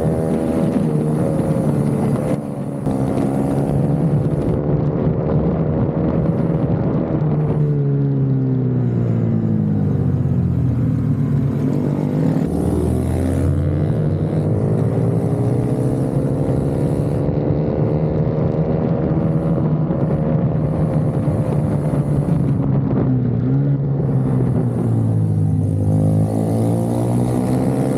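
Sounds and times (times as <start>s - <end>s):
minibike engine revving: 0.0s - 7.6s, 10.4s - 27.9s.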